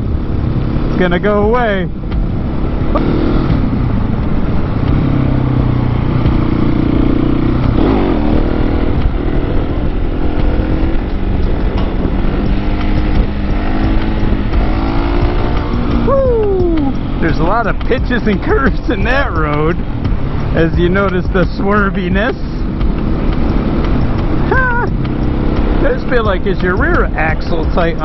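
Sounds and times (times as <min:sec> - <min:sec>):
motorcycle engine running: 0:00.0 - 0:28.0
wind noise: 0:00.0 - 0:28.0.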